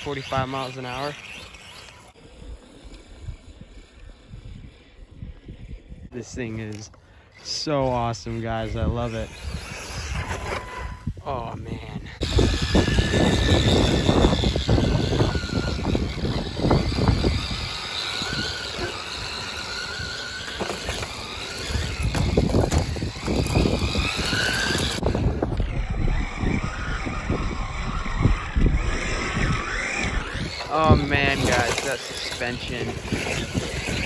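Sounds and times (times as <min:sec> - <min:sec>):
electric motor whining: 0:00.0 - 0:34.0
tyres rumbling on gravel: 0:06.1 - 0:34.0.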